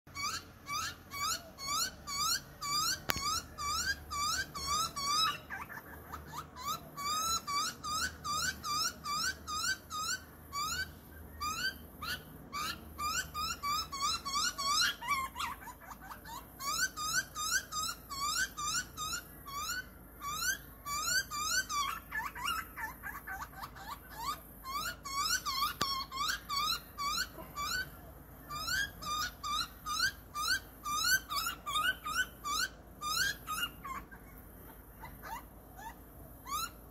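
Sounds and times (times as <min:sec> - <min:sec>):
young bird begging calls: 0:00.1 - 0:36.9.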